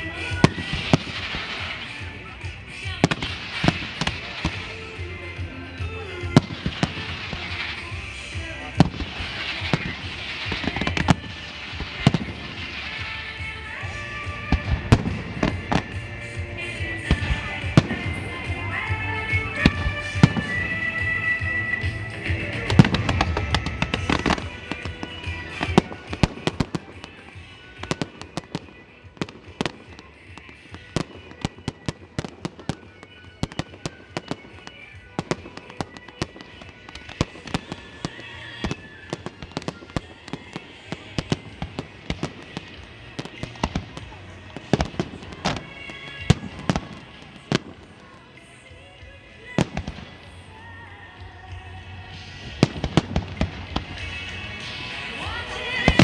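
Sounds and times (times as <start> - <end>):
fireworks bangs: 0.0 - 48.4, 52.1 - 56.0
music: 0.0 - 56.0.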